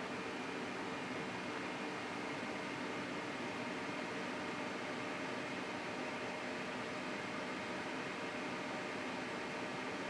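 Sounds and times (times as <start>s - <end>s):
electric fan whirring hiss: 0.0s - 10.0s.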